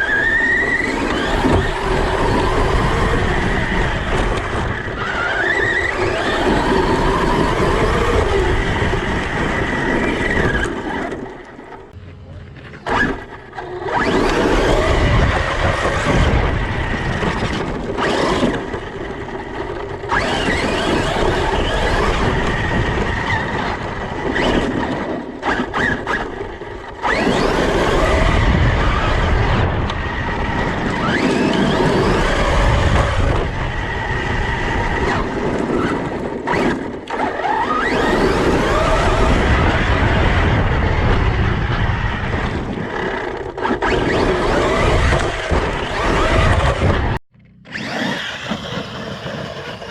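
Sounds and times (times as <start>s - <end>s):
rc car motor whine: 0.0s - 11.9s, 12.7s - 49.9s
tyres churning over rough ground: 0.0s - 49.9s.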